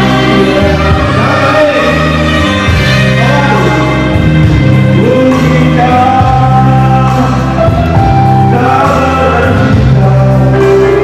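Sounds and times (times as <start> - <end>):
electronic keyboard accompaniment: 0.0 - 11.0
man singing into a microphone: 0.0 - 11.0.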